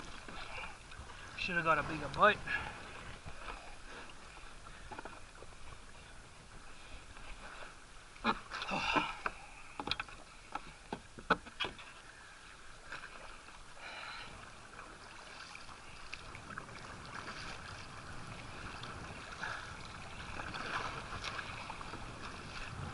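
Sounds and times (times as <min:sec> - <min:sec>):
paddle splashing: 0:00.0 - 0:22.9.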